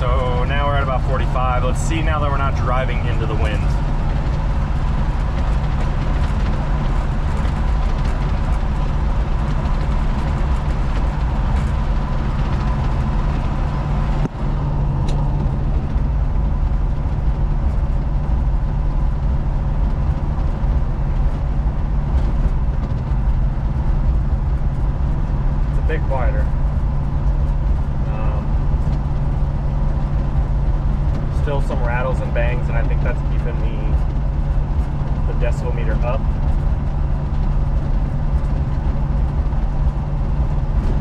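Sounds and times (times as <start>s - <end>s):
engine drone inside cab: 0.0s - 41.0s
road and wind noise: 0.0s - 41.0s.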